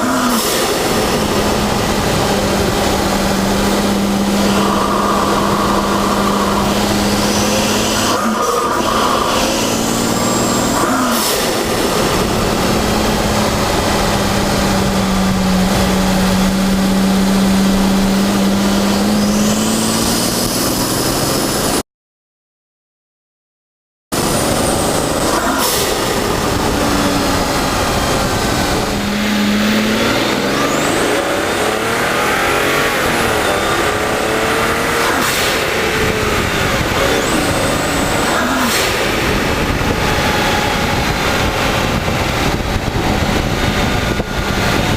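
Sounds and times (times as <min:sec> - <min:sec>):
car engine while driving: 0:00.0 - 0:21.8, 0:24.1 - 0:44.9.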